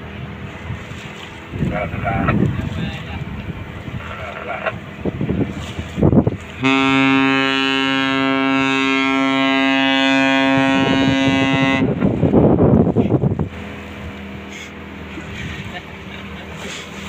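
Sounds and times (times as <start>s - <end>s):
wind buffeting microphone: 0.0s - 15.8s
ship horn low blast: 0.0s - 17.0s.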